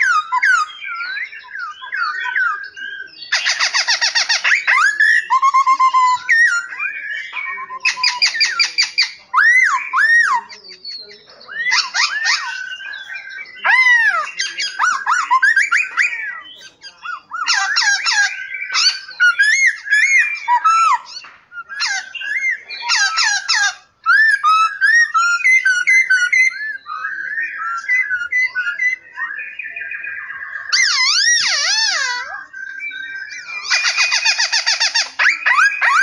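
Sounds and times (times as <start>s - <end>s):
songbirds singing and chirping: 0.0s - 36.0s.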